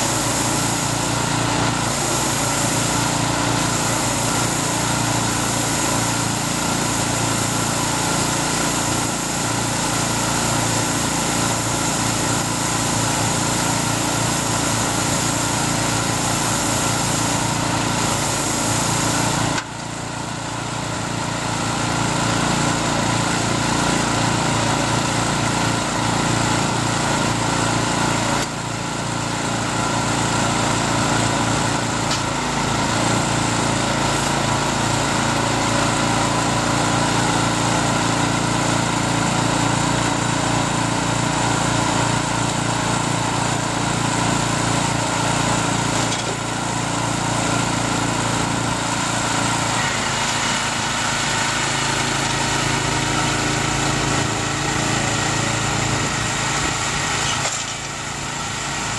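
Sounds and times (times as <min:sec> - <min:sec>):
small engine running: 0:00.0 - 0:58.9.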